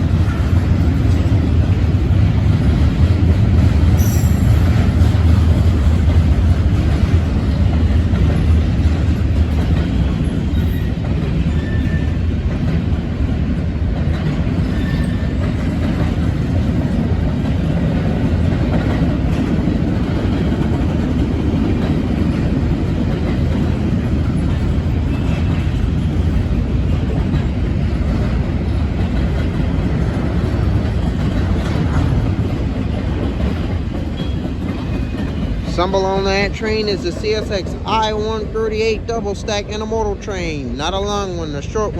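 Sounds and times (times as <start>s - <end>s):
freight train wheels rumbling on rail: 0.0s - 41.9s.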